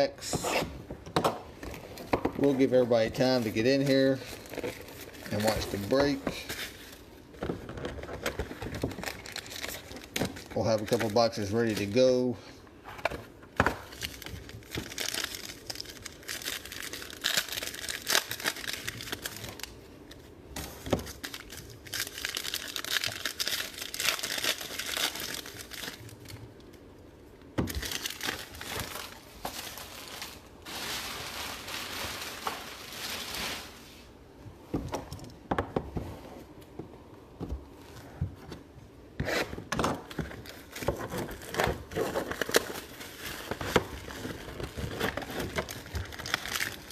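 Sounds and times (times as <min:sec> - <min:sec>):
plastic wrapping crinkling: 0:01.5 - 0:12.4, 0:13.0 - 0:26.9, 0:27.6 - 0:34.2, 0:40.0 - 0:46.9.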